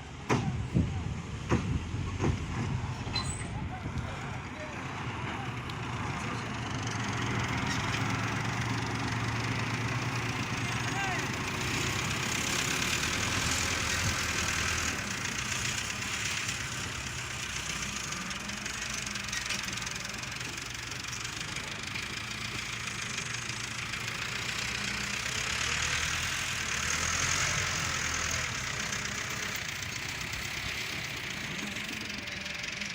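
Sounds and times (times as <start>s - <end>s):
heavy machine engine running: 0.0s - 32.9s.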